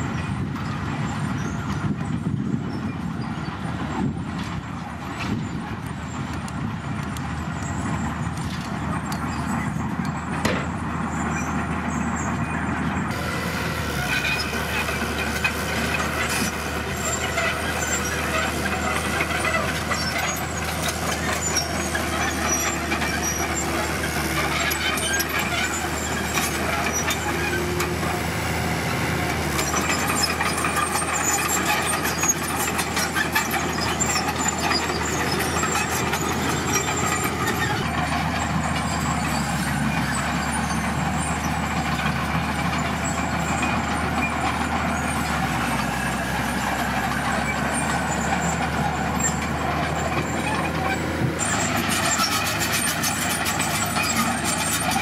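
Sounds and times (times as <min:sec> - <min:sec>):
bulldozer diesel engine running: 0:00.0 - 0:55.0
steel tracks clinking: 0:03.6 - 0:55.0.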